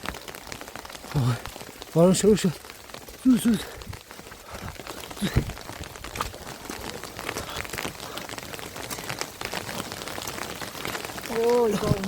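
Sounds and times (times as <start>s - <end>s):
rain pattering on surfaces: 0.0s - 12.0s.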